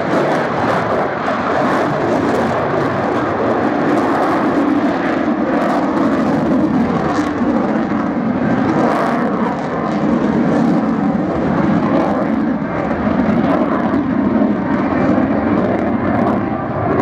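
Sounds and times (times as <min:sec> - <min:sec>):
loud jet roar: 0:00.0 - 0:17.0.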